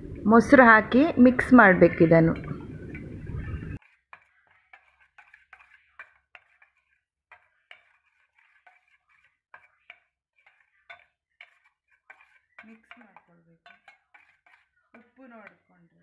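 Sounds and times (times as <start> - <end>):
spoon scraping steel bowl: 1.3 - 16.0.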